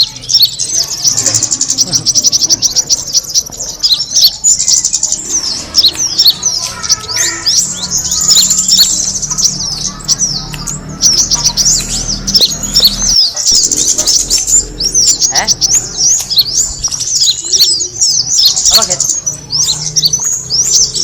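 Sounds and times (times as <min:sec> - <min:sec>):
small bird chirping and trilling: 0:00.0 - 0:21.0.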